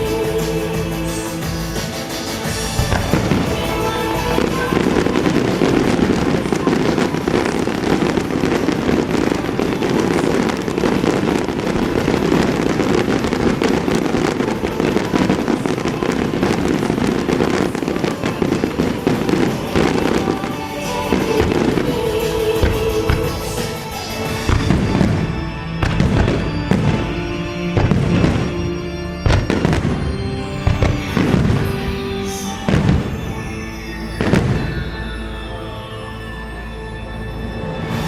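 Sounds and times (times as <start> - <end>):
fireworks bangs and crackling: 0.0 - 35.8
music: 0.0 - 38.0.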